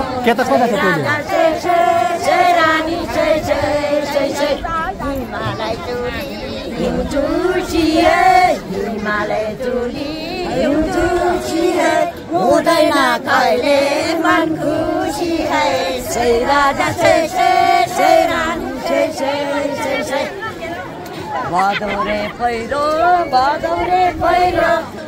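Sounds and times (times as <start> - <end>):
women singing folk song: 0.0 - 25.0.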